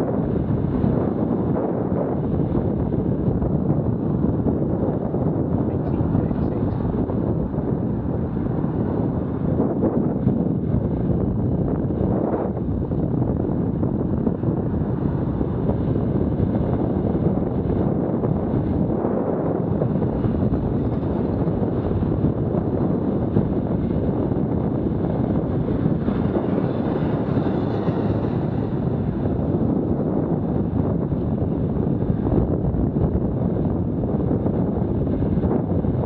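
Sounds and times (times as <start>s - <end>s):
road and traffic noise: 0.0s - 36.0s
wind buffeting microphone: 0.0s - 36.0s.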